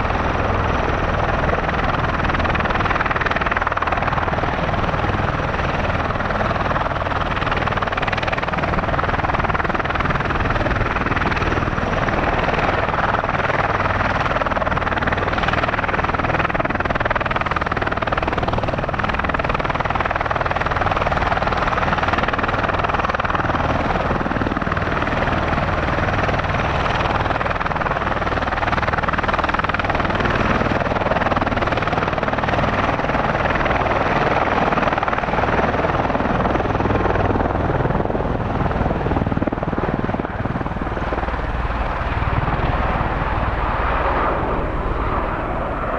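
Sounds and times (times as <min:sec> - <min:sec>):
tiltrotor aircraft rotor throb: 0:00.0 - 0:45.9.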